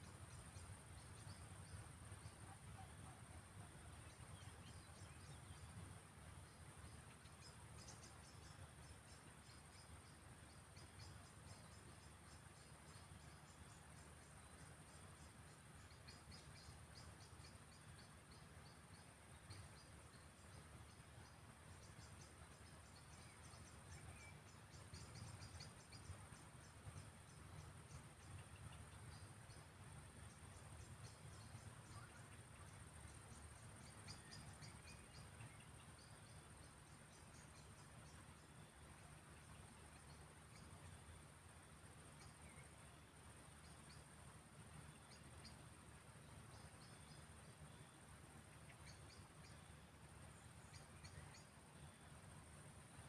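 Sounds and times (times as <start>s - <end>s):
crickets chirping: 0.0s - 53.0s
high insect hum: 0.0s - 53.0s
low steady rumble: 0.0s - 53.0s.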